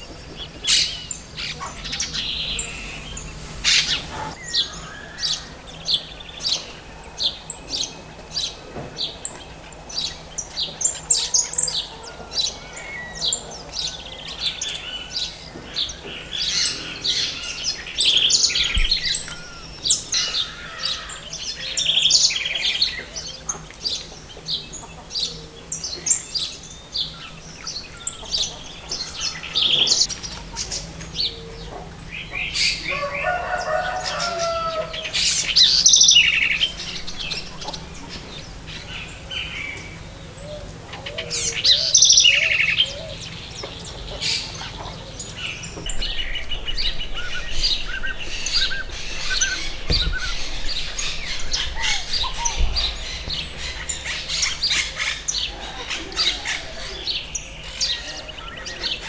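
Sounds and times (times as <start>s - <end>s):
songbirds chirping and calling: 0.0s - 59.0s.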